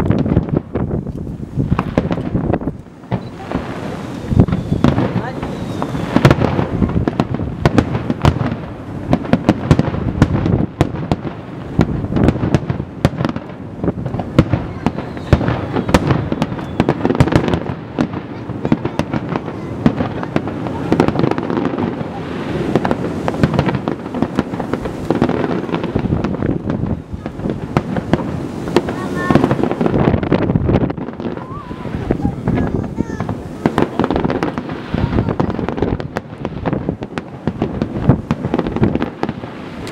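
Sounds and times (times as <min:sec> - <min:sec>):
fireworks bangs: 0:00.0 - 0:39.9
rumble of fireworks reports: 0:00.0 - 0:39.9.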